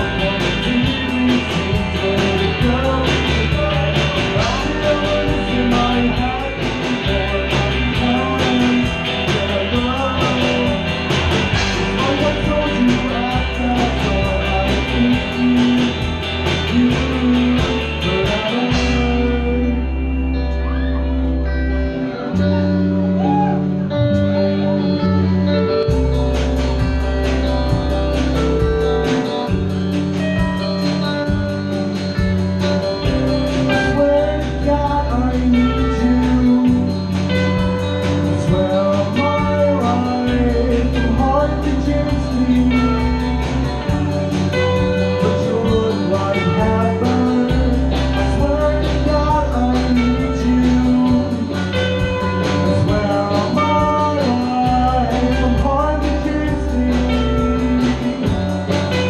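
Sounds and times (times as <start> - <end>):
drum kit beat: 0.0 - 19.8, 25.8 - 59.0
man singing: 0.0 - 21.2, 28.2 - 59.0
electric guitars: 0.0 - 59.0.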